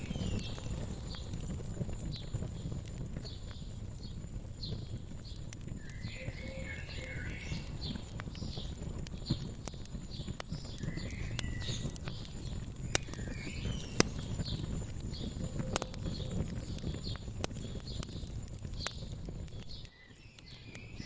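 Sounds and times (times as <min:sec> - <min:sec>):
low steady rumble: 0:00.0 - 0:19.8
birds chirping: 0:00.0 - 0:21.0
wood fire crackling and popping: 0:00.0 - 0:21.0.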